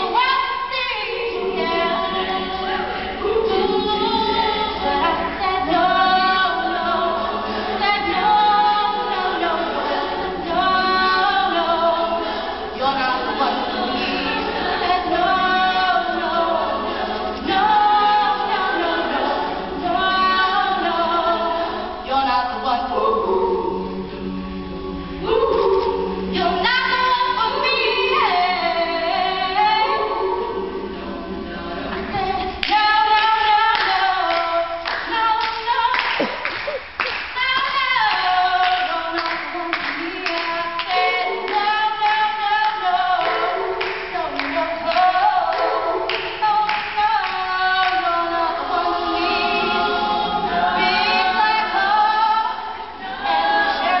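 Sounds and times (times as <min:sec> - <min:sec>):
female a cappella group singing: 0:00.0 - 0:54.0.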